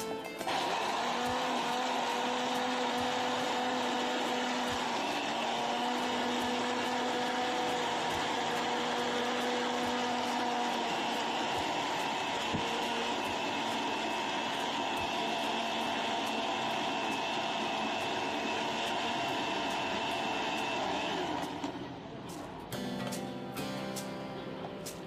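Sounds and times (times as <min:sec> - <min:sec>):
blender motor whining: 0:00.0 - 0:21.9.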